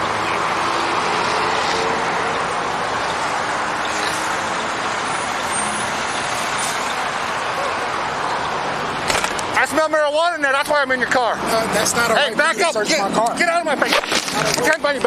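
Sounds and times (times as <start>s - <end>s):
highway traffic: 0.0s - 15.0s
vehicle engines running: 0.0s - 15.0s.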